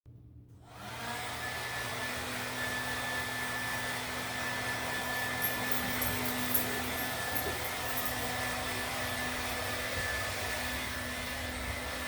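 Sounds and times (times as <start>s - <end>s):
blow dryer running: 0.6s - 12.0s.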